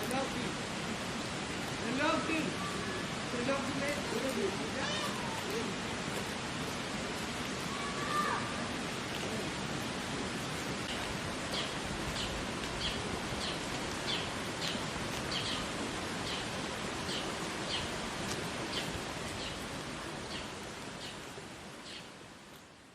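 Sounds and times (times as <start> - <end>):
steady outdoor rushing noise: 0.0 - 22.9.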